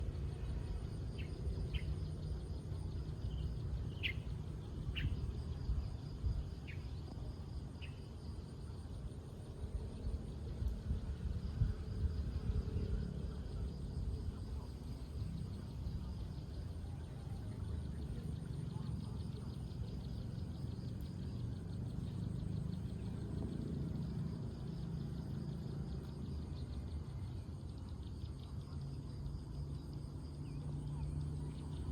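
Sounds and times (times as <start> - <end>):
insects trilling: 0.1 - 31.9.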